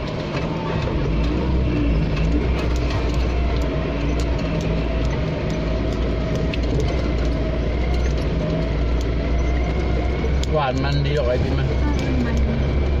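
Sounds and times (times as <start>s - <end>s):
vehicle engine running: 0.0s - 13.0s
vehicle rattles and clicks: 0.0s - 13.0s.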